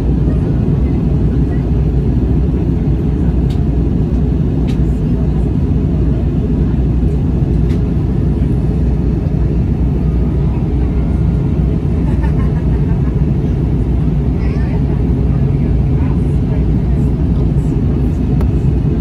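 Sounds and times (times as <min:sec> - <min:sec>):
jet engines droning: 0:00.0 - 0:19.0.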